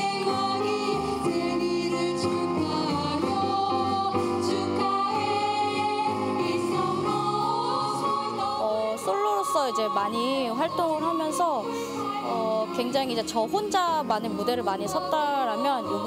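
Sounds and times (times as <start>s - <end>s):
women's choir singing in harmony: 0.0s - 16.0s.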